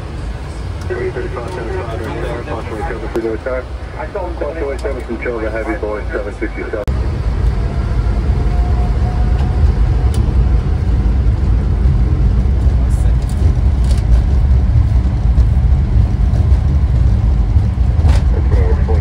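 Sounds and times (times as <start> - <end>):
jet engines at takeoff thrust: 0.0 - 19.0.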